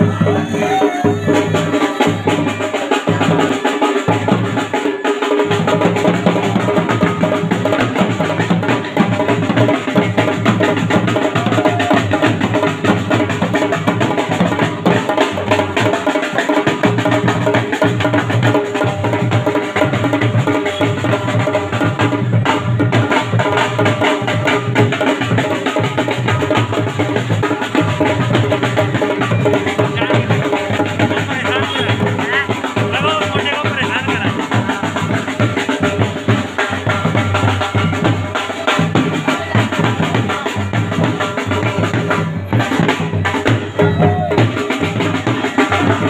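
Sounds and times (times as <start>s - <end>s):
band accompaniment: 0.0s - 46.0s
drums beaten fast: 0.0s - 46.0s.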